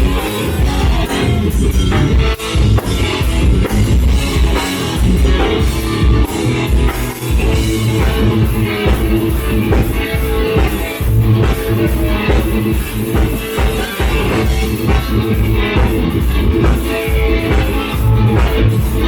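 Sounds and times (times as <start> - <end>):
drums keeping steady beat: 0.0 - 19.0
overdriven electric guitar: 0.0 - 19.0.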